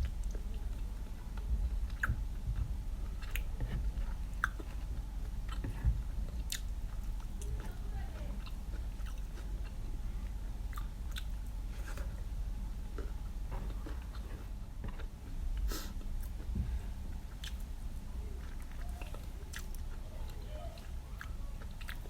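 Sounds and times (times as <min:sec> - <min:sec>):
chewing and biting: 0:00.0 - 0:07.8, 0:08.4 - 0:12.2, 0:12.9 - 0:17.8, 0:18.4 - 0:22.0
low room hum: 0:00.0 - 0:22.0.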